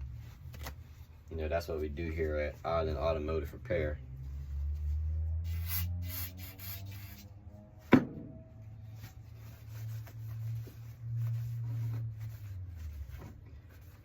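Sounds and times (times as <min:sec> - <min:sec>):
wiping and rubbing strokes: 0:00.0 - 0:07.8, 0:08.6 - 0:14.0.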